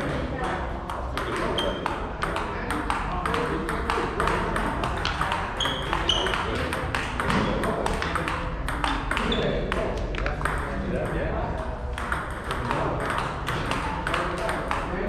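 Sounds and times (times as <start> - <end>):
ball bouncing on table: 0.0 - 15.0
ball hitting table tennis paddles: 0.0 - 15.0.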